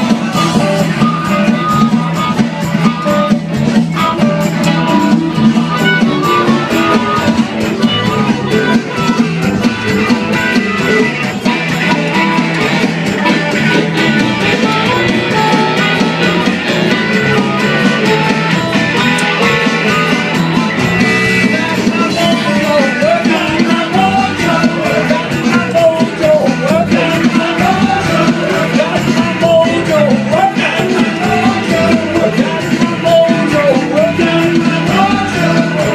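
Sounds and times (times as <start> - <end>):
blues band playing: 0.0 - 35.9
wavering electric guitar lead: 0.0 - 35.9.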